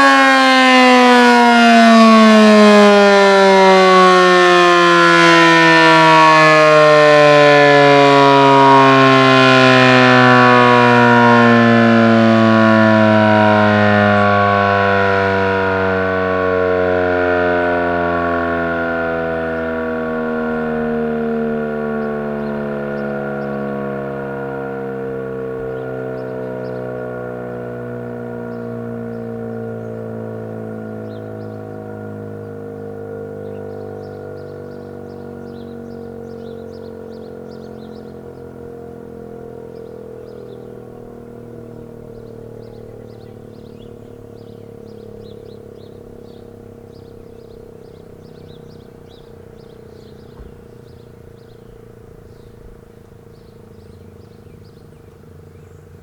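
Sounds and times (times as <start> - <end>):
warning siren winding down: 0.0 - 56.0.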